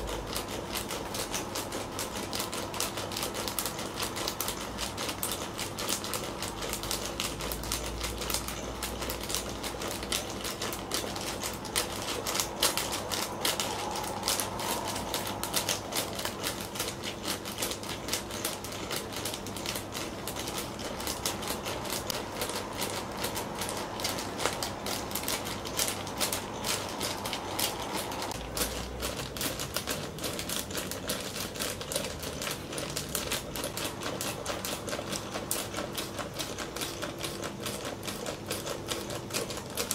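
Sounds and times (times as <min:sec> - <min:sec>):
faint motor hum: 0:00.0 - 0:39.9
plastic bag crackling and rattling: 0:00.0 - 0:39.9.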